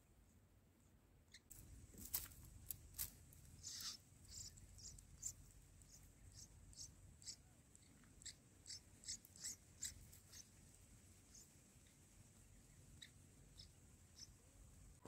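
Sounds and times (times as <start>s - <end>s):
nestlings peeping and clicking: 1.3s - 15.0s.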